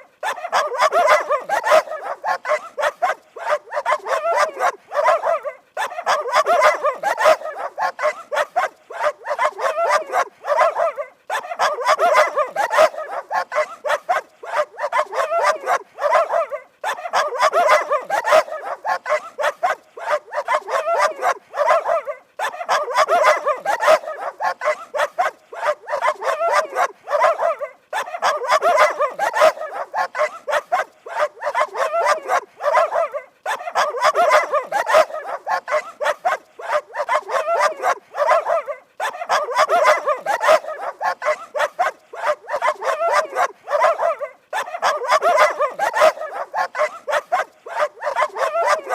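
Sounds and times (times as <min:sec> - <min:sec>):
dog barking rapidly: 0:00.0 - 0:48.9.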